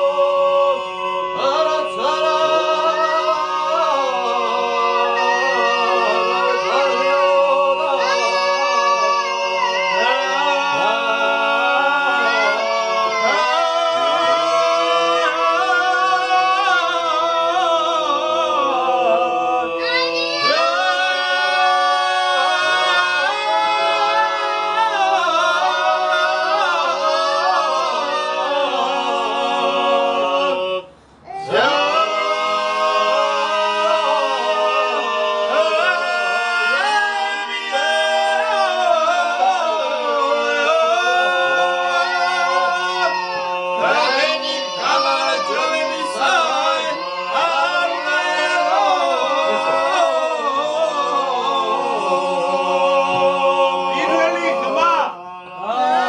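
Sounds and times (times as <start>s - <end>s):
men singing in close harmony: 0.0s - 56.0s.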